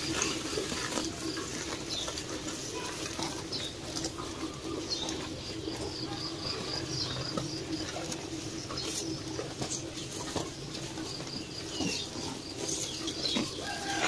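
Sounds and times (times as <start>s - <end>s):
small birds chirping: 0.0s - 14.0s
straw rustling: 0.0s - 14.0s.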